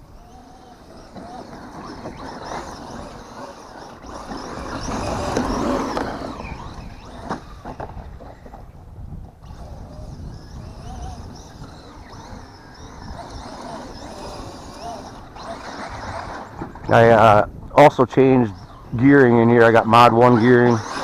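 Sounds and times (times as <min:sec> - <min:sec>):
rc car electric motor whining: 0:00.0 - 0:21.0
wind rumbling on microphone: 0:00.0 - 0:21.0.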